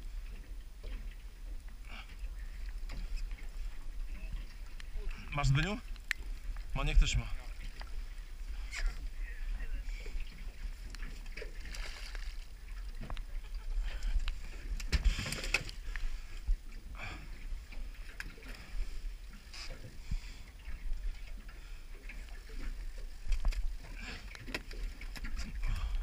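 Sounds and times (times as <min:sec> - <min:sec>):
water lapping against boat hull: 0:00.0 - 0:26.0.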